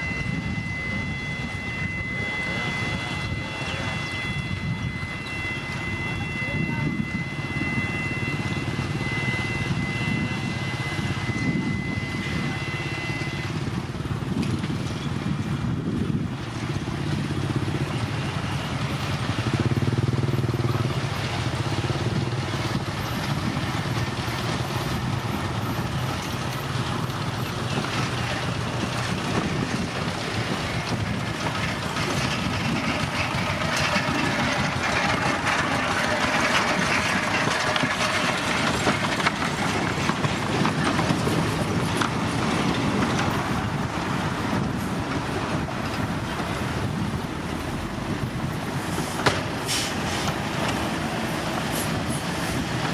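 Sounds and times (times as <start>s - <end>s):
steady high whine: 0.0s - 19.8s, 20.8s - 49.6s
diesel machinery running: 0.0s - 52.9s.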